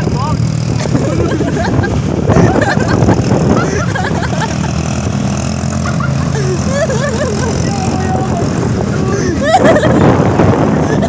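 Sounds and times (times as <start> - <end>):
vehicle engine running: 0.0 - 11.0
voices: 0.0 - 11.0.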